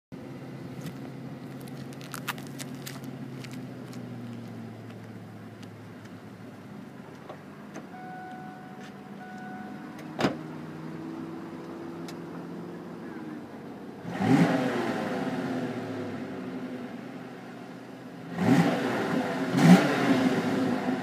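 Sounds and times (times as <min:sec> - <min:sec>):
car engine idling: 0:00.1 - 0:14.2, 0:14.8 - 0:18.3.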